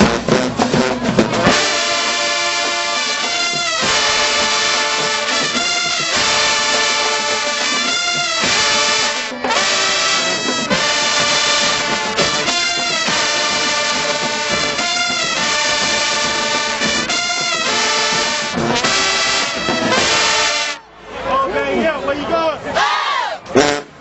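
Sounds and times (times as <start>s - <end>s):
marching band brass chords: 0.0s - 21.2s, 22.8s - 24.0s.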